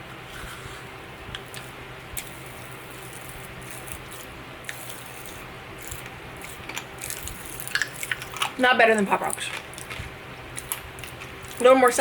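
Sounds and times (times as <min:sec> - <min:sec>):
steady low hum: 0:00.0 - 0:12.0
popping candy crackling: 0:02.2 - 0:12.0.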